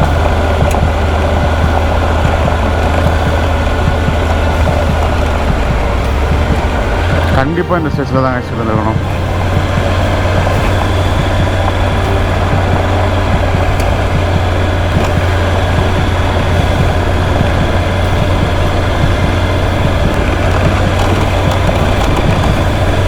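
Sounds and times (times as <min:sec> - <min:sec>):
motorcycle engine running: 0:00.0 - 0:23.0
wind rush over microphone: 0:00.0 - 0:23.0.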